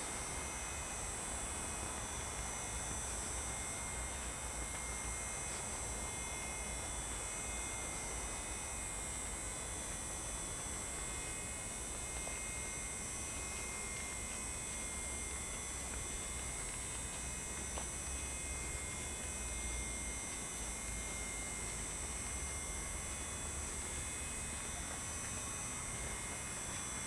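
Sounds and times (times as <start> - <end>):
steady hum and hiss: 0.0 - 27.0.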